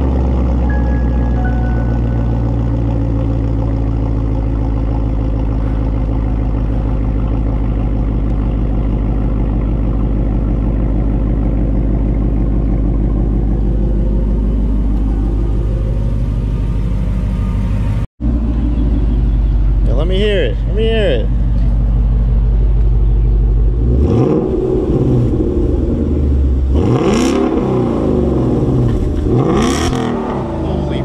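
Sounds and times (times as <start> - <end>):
car engine idling: 0.0 - 29.4.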